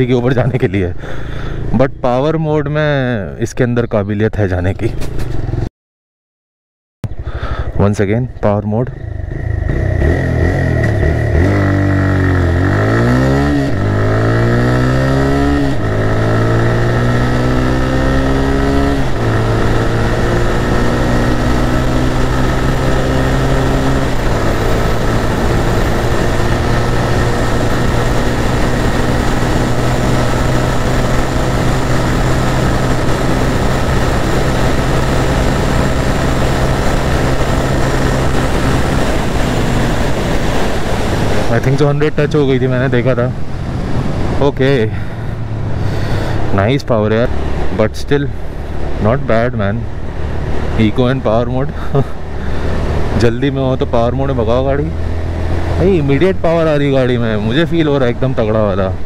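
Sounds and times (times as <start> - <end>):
motorcycle engine accelerating: 4.9 - 5.7, 8.8 - 59.0.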